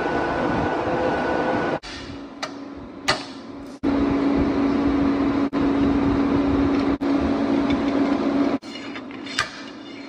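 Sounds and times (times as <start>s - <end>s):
loud low machine hum: 0.0s - 9.9s.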